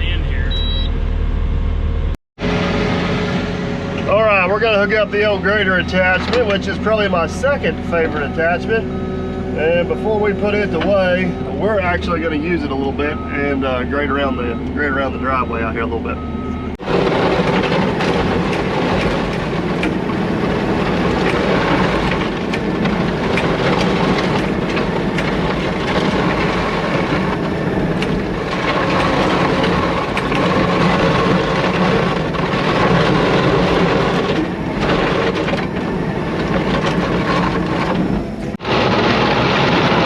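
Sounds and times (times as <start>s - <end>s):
heavy equipment engine running: 0.0s - 40.0s.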